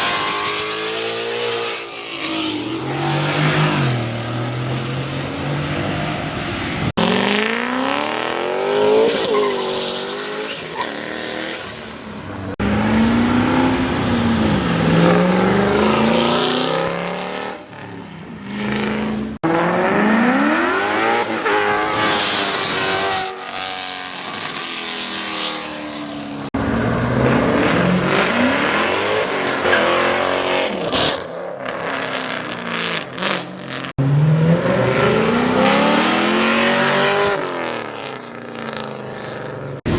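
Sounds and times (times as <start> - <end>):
cars accelerating and revving: 0.0 - 39.9.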